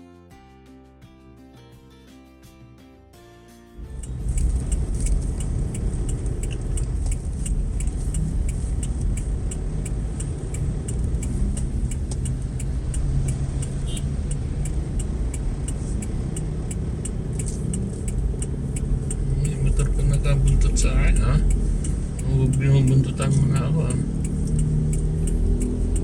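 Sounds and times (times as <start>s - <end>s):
car engine and road rumble: 3.8s - 26.0s
turn signal ticking: 3.8s - 26.0s.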